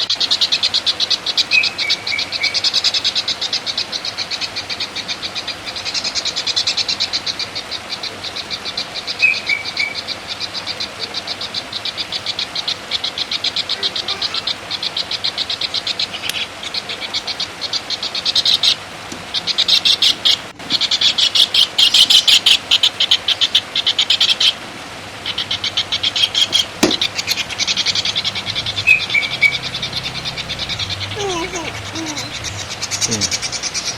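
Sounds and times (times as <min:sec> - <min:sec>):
songbird chattering call: 0:00.0 - 0:24.6, 0:25.2 - 0:33.9.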